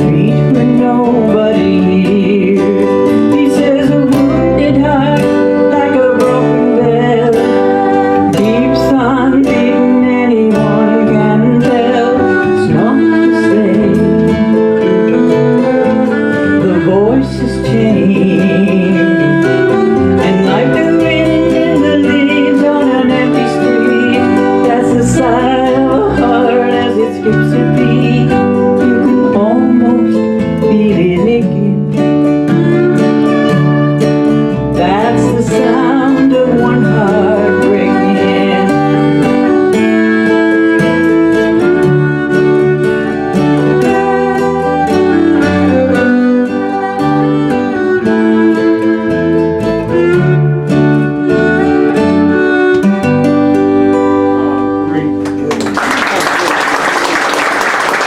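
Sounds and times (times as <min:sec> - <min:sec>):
violin melody: 0:00.0 - 0:55.7
bass: 0:00.0 - 0:56.8
acoustic guitar: 0:00.0 - 0:58.0.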